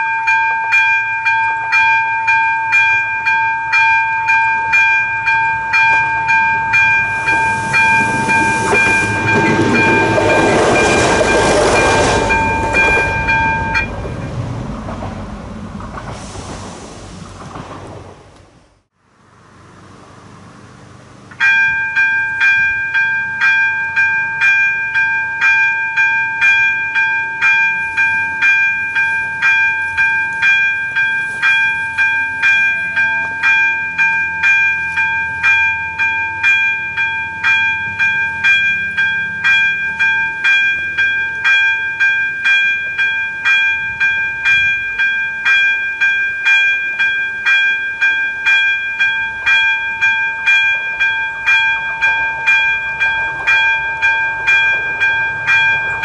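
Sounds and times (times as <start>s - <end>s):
level crossing bell ringing: 0.0s - 14.0s, 21.4s - 56.0s.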